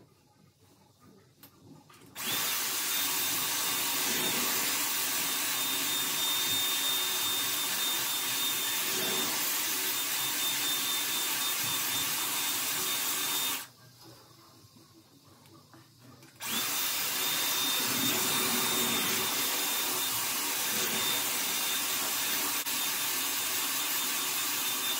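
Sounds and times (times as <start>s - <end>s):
hot-air styling wand blowing: 2.2s - 13.7s, 16.4s - 24.9s.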